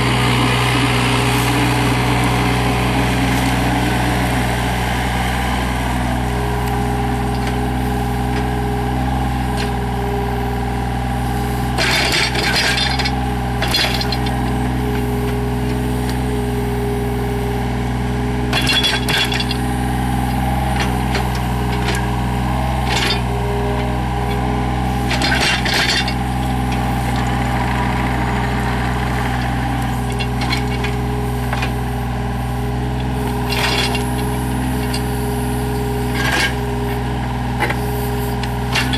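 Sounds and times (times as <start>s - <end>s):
mini excavator diesel engine: 0.0s - 38.9s.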